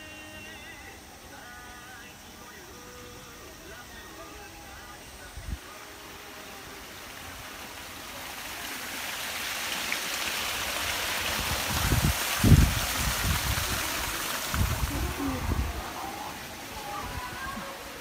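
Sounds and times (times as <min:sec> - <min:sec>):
waterfall trickling and splashing: 0:02.4 - 0:18.0.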